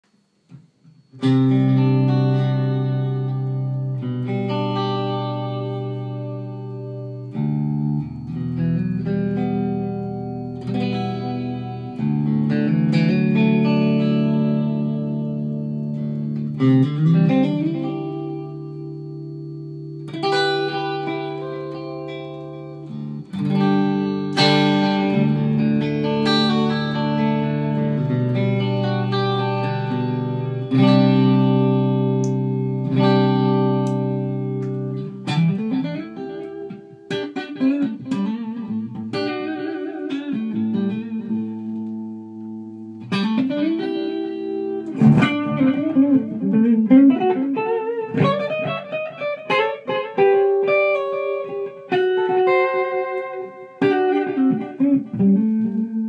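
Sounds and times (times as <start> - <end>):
electric guitar chords: 0.0 - 56.0.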